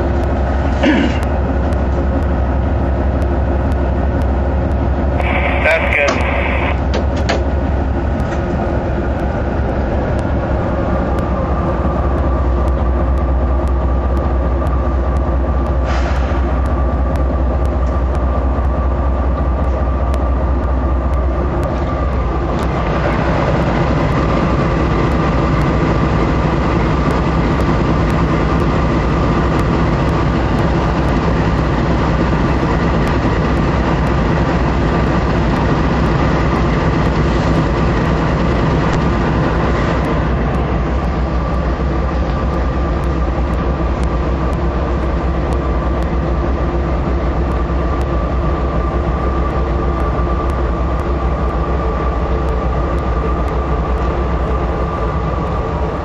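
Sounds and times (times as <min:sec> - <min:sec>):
diesel locomotive droning: 0:00.0 - 0:56.0
steady high whine: 0:01.8 - 0:56.0.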